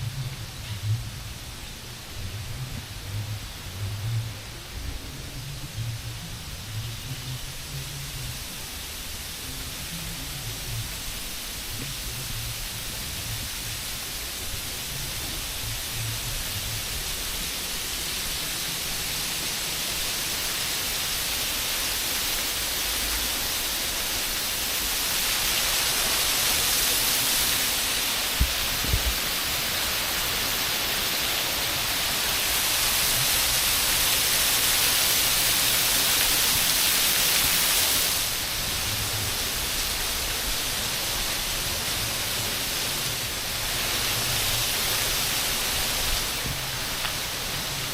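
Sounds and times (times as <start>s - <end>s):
rushing hissing noise: 0.0s - 47.9s.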